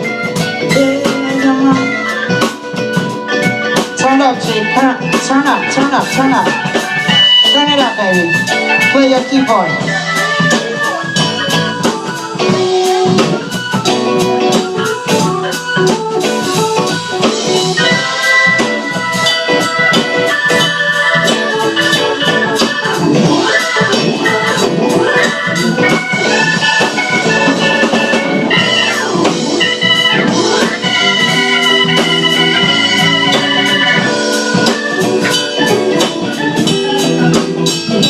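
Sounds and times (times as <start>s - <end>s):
keyboard solo: 0.0s - 38.0s
steady drum beat: 0.0s - 38.0s.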